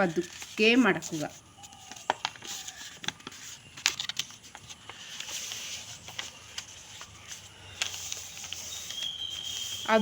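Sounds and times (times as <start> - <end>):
paper crinkling and tapping: 0.0 - 10.0
paper sliding rustle: 0.1 - 10.0.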